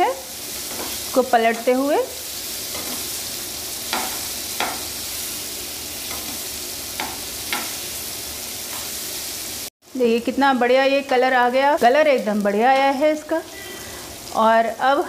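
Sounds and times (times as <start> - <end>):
cheese sizzling in hot oil: 0.0 - 15.0.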